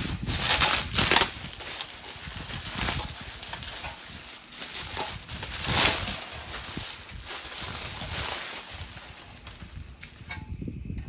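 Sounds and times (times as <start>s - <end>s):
bubble wrap rustling and crinkling: 0.0s - 10.4s.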